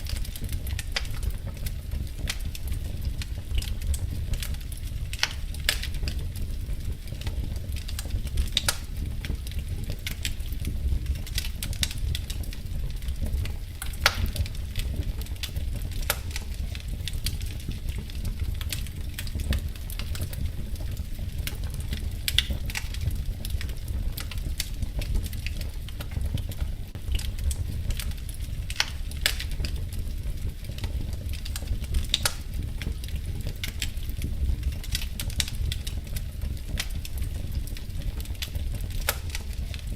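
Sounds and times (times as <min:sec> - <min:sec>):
low rumble of burning fire: 0:00.0 - 0:39.9
wood fire crackling: 0:00.0 - 0:39.9.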